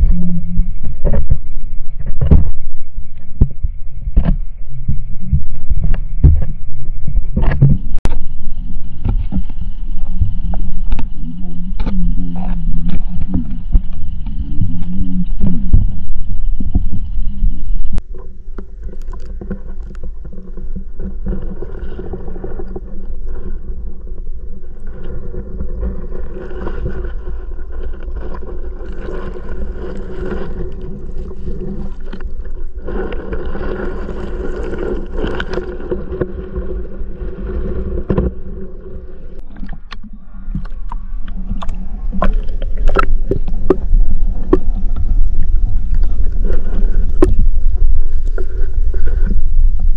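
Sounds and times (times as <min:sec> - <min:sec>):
low underwater rumble: 0:00.0 - 0:49.9.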